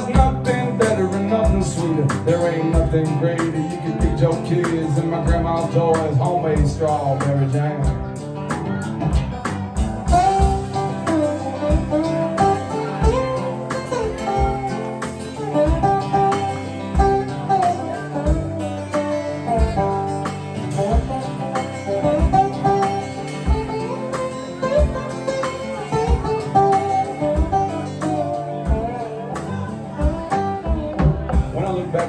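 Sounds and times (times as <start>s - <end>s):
acoustic guitar melody: 0.0s - 32.0s
drum kit: 0.0s - 32.0s.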